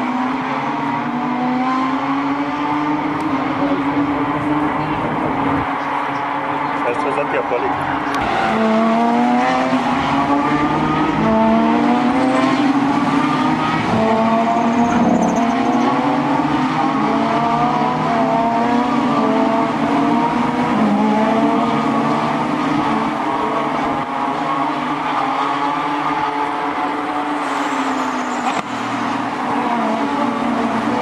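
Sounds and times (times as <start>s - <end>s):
race car engines accelerating: 0.0s - 31.0s.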